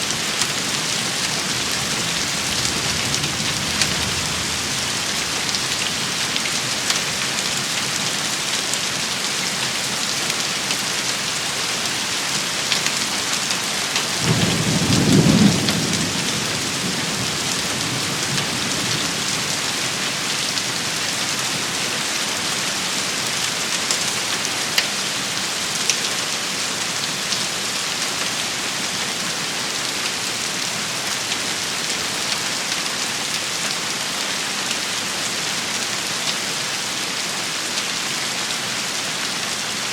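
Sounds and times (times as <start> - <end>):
rain hissing on surfaces: 0.0 - 39.9.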